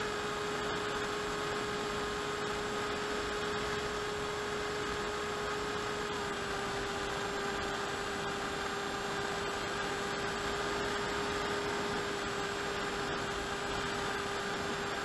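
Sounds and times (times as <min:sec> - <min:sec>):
electric motor and propeller drone: 0:00.0 - 0:15.0.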